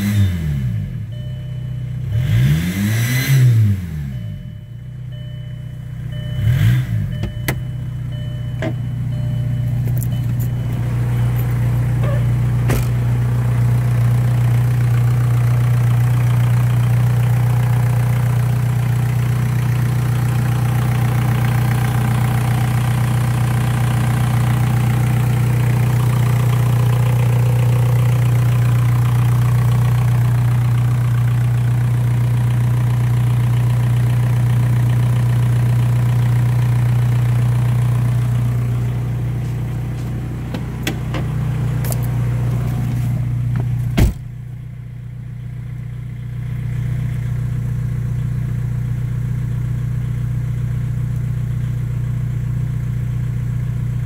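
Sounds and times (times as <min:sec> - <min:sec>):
diesel engine idling: 0:03.9 - 0:54.0.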